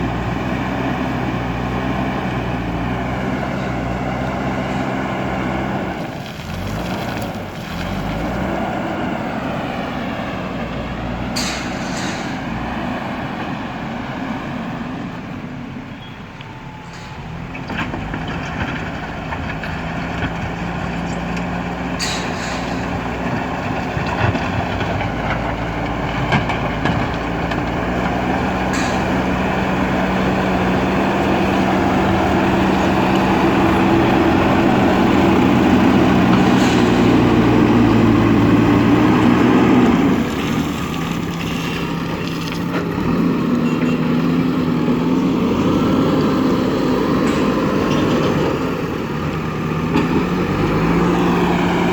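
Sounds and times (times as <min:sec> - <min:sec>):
diesel engine working under load: 0:00.0 - 0:51.9.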